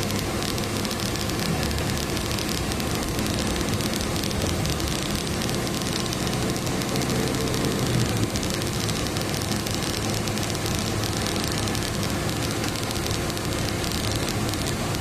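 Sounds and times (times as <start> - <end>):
engine and road hum: 0.0 - 15.0
rain: 0.0 - 15.0
tyres hissing on wet road: 1.0 - 15.0.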